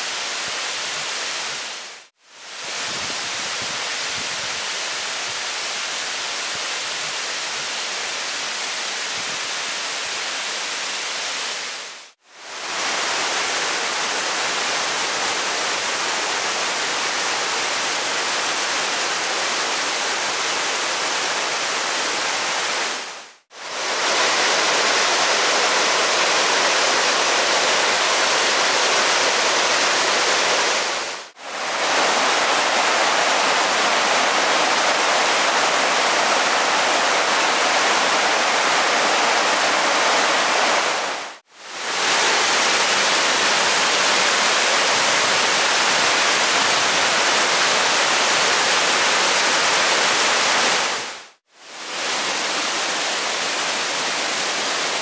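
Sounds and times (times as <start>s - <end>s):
waterfall and rushing stream: 0.0s - 55.0s.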